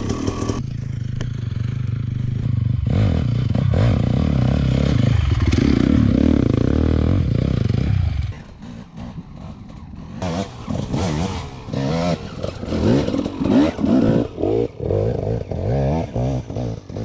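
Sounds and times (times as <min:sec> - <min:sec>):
dirt bike engine revving: 0:00.0 - 0:00.7, 0:01.6 - 0:17.0.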